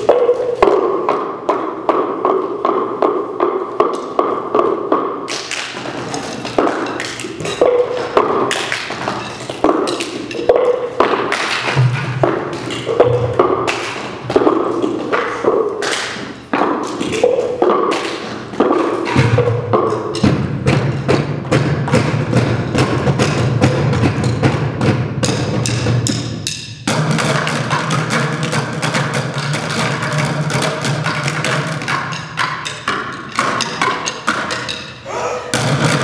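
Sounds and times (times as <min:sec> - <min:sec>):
bucket drumming: 0:00.0 - 0:36.0.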